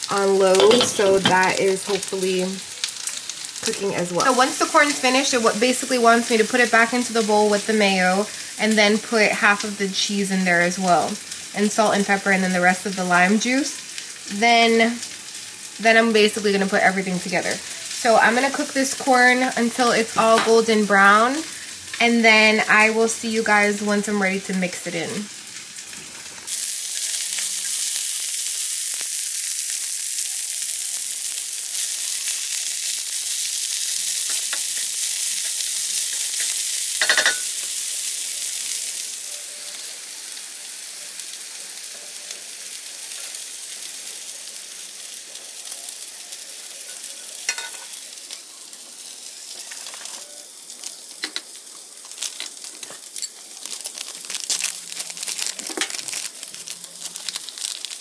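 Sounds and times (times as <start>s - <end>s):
corn sizzling in a skillet: 0.0s - 58.0s.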